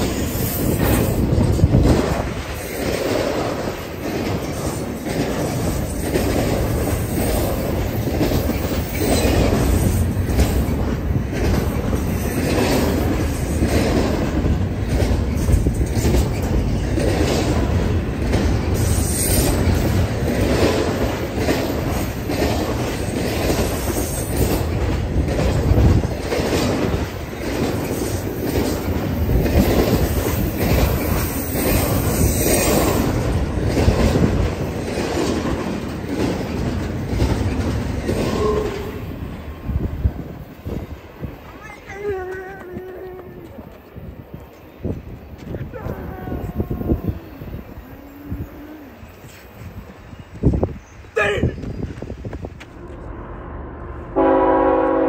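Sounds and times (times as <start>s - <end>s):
wheels clacking over rail joints: 0.0s - 46.0s
train rumbling past: 0.0s - 55.0s.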